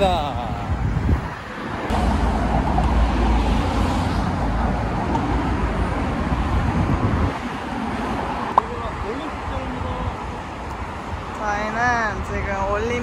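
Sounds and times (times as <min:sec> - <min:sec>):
road traffic rushing past: 0:00.0 - 0:12.3.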